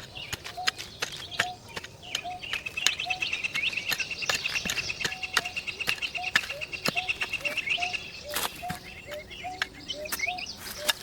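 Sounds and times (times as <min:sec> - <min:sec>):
birds chirping and calling: 0:00.0 - 0:11.0
high bird trill: 0:00.0 - 0:11.0.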